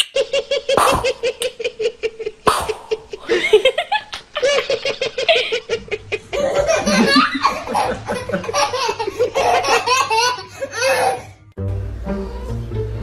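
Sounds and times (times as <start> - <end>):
baby laughing: 0.0 - 11.4.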